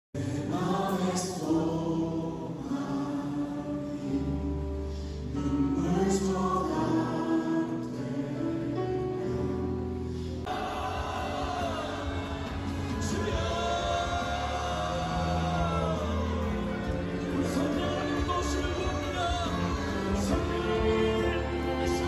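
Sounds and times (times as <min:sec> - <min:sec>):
voices singing together: 0:00.2 - 0:22.0.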